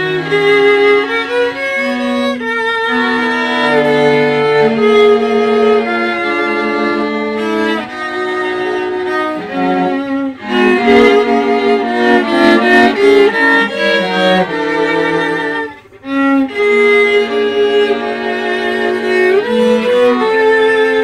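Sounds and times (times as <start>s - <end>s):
string quartet playing: 0.0s - 21.0s.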